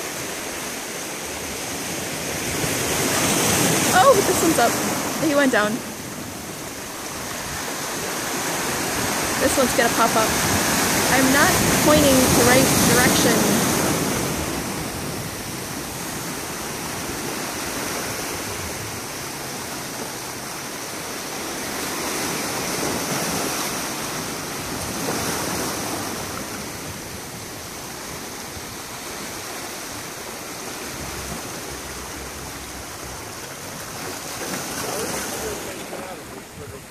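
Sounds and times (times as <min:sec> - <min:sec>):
ocean waves washing: 0:00.0 - 0:36.9.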